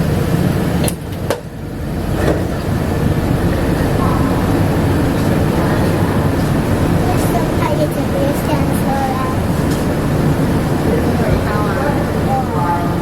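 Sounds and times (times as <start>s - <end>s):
people-mover car rumbling: 0.0s - 13.0s.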